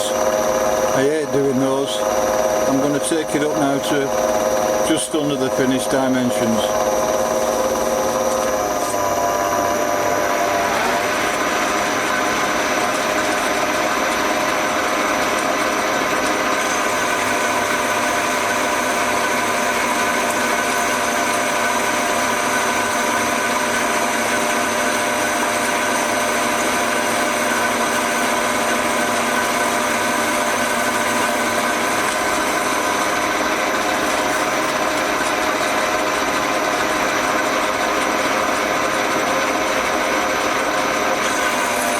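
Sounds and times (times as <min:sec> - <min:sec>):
metal lathe whining: 0:00.0 - 0:41.9.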